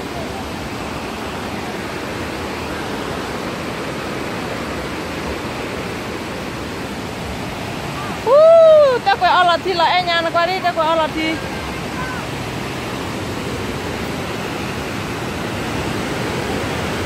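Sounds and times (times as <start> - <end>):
large waterfall rushing: 0.0 - 17.0.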